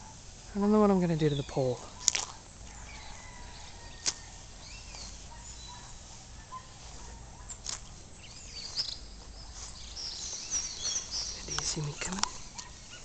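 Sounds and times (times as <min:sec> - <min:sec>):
faint bird chirps: 0:01.2 - 0:13.0.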